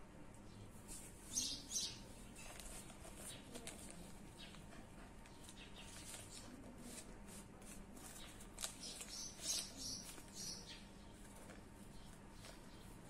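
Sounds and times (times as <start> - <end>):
small birds chirping: 0.3 - 7.0, 8.0 - 13.0.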